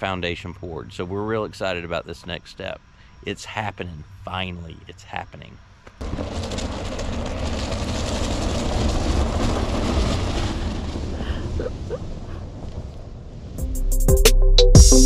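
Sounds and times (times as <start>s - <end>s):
low engine rumble: 0.0s - 13.3s.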